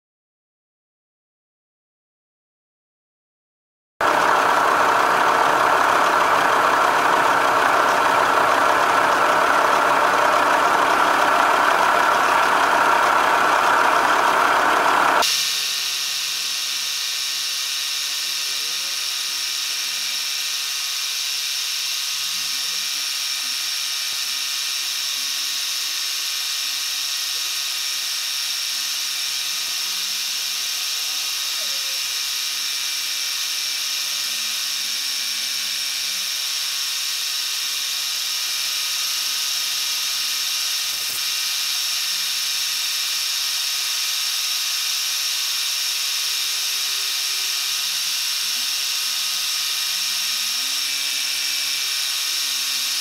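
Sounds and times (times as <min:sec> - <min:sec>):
high machine whine: 0:04.0 - 0:53.0
milling machine cutting metal: 0:04.0 - 0:53.0.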